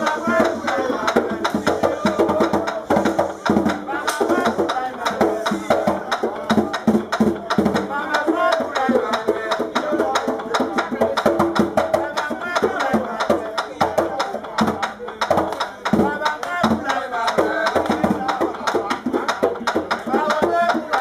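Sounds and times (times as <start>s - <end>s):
hand drum fast rhythm: 0.0s - 21.0s
person singing: 0.0s - 21.0s.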